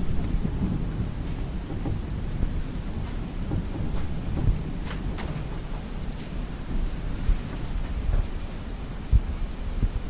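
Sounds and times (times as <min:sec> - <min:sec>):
gusting wind: 0:00.0 - 0:10.0.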